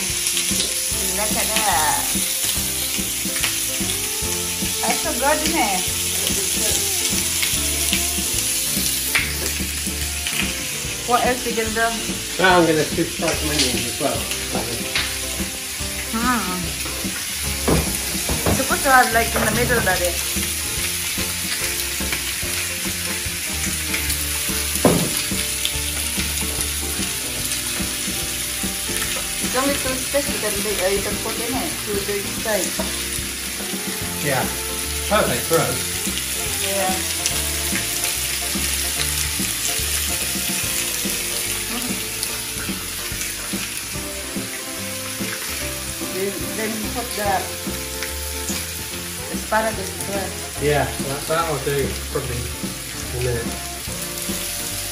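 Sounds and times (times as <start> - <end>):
background music: 0.0 - 54.9
steak sizzling on a grill: 0.0 - 54.9.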